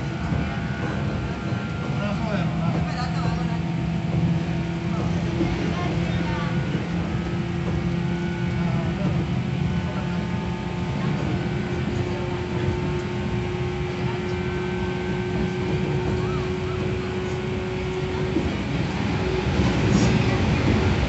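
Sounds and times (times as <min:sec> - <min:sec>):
train motor hum: 0:00.0 - 0:21.0
train wheels rumbling: 0:00.0 - 0:21.0.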